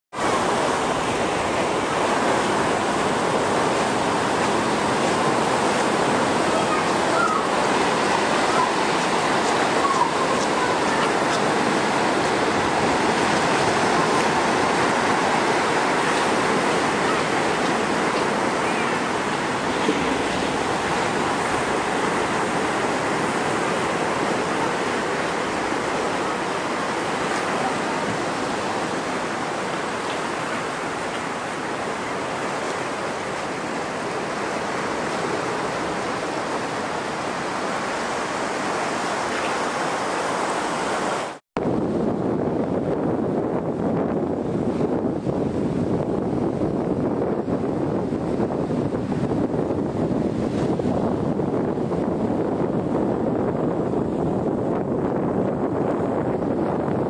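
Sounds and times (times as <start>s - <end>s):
surf waves breaking: 0.1s - 57.0s.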